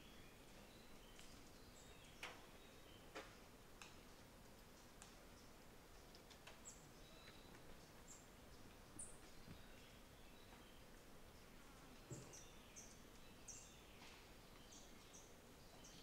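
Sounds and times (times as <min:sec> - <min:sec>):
small birds chipping: 0:00.0 - 0:16.0.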